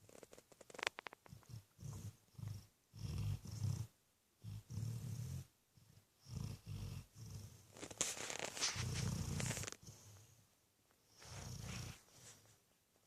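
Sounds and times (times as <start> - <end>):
pet snoring: 0.0 - 10.4, 11.2 - 12.4.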